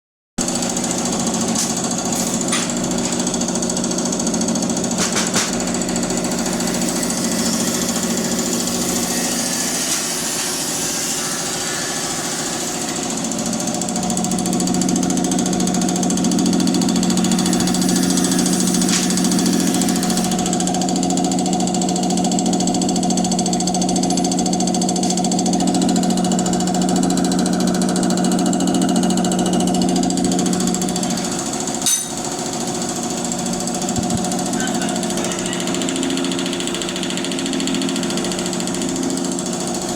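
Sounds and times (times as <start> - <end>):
test bench mechanical hum: 0.4 - 39.9.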